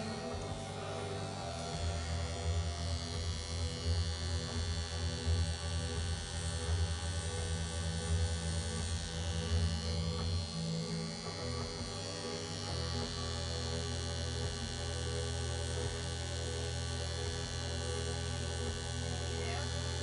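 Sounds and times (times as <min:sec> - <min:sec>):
tattoo machine humming: 0:00.0 - 0:20.0.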